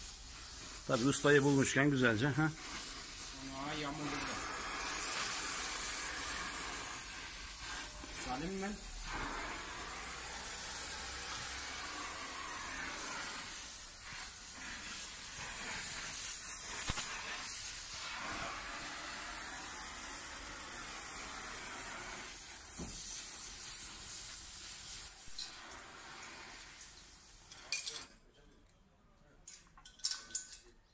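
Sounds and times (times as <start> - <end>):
brazing torch hissing: 0.0 - 27.8.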